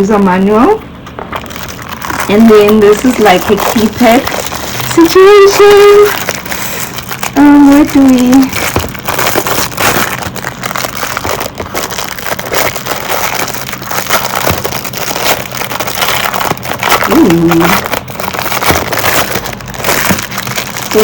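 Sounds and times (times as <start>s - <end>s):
plastic packaging crinkling: 1.0s - 21.0s.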